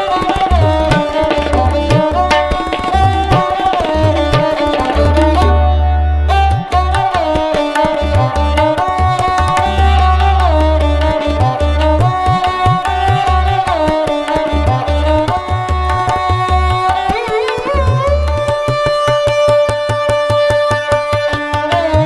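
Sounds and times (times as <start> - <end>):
hand drum beat: 0.0 - 5.7, 6.4 - 19.8.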